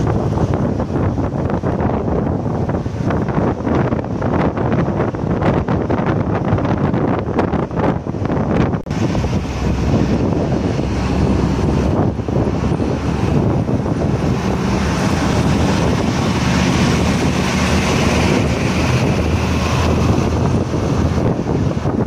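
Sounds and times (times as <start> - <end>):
bus engine drone: 0.0 - 22.0
road noise: 0.0 - 22.0
wind rushing over microphone: 0.0 - 22.0.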